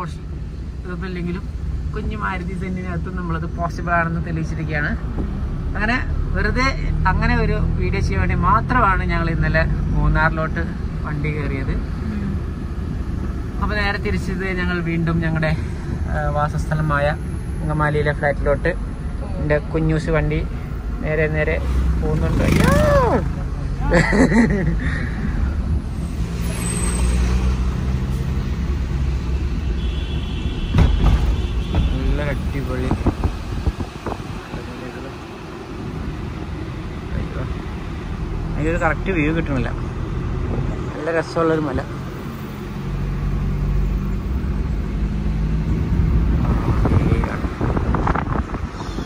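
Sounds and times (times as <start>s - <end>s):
car engine and tyre drone: 0.0s - 49.0s
road rumble: 0.0s - 49.0s.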